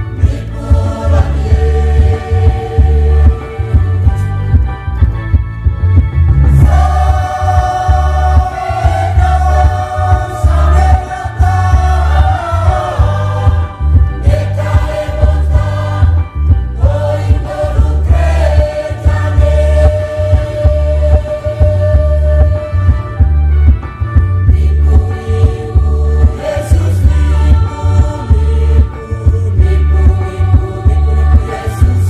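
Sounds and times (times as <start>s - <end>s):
choir singing a hymn in unison: 0.0s - 4.3s, 6.5s - 23.1s, 24.4s - 32.0s
steady low beat: 0.0s - 32.0s.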